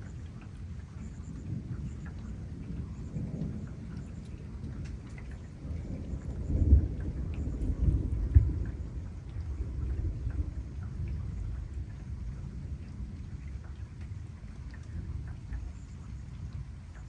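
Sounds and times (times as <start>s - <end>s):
light rain dripping: 0.0s - 17.0s
thunder rumbling: 1.3s - 16.7s.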